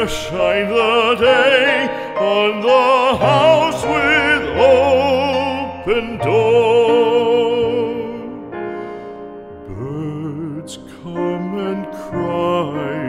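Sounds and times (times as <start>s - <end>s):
classical singer with vibrato: 0.0s - 8.8s, 9.6s - 13.0s
soft musical accompaniment: 0.0s - 13.0s.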